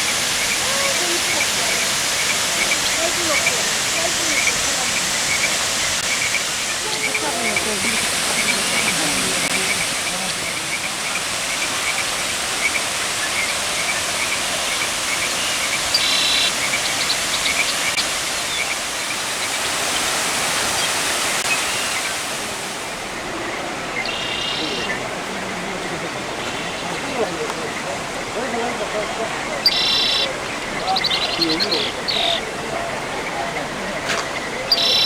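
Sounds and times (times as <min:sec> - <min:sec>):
waterfall rushing into pool: 0:00.0 - 0:35.0.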